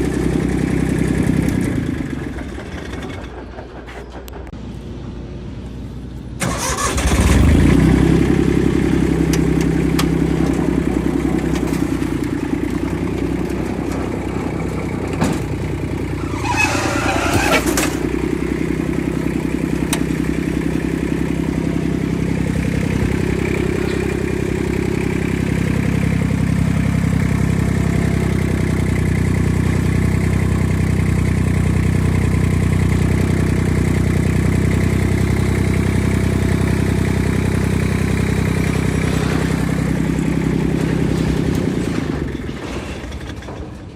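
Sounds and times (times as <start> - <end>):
diesel engine starting and running: 0.0 - 43.9.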